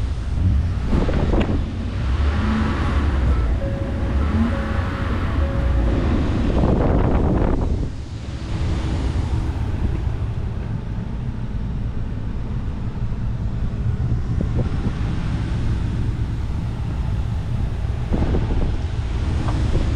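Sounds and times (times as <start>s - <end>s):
engine idling inside cab: 0.0s - 19.9s.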